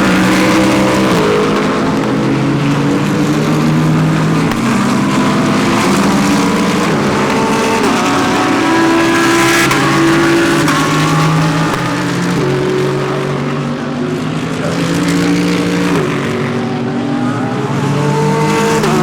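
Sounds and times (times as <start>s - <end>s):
race cars going by: 0.0s - 19.0s.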